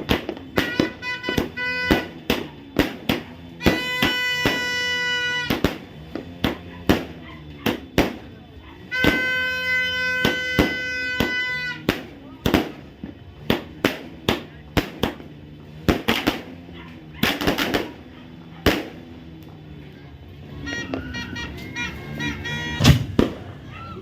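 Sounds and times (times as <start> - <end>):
firecrackers banging: 0.0 - 24.0.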